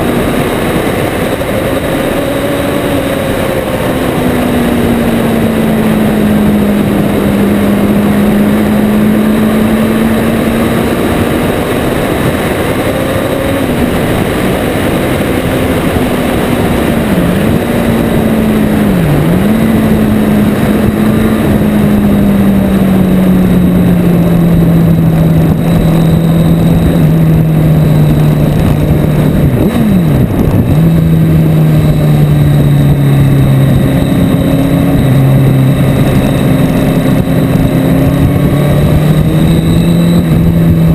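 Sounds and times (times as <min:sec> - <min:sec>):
motorcycle engine cruising: 0:00.0 - 0:40.9
road rush: 0:00.0 - 0:40.9
wind noise: 0:00.0 - 0:40.9.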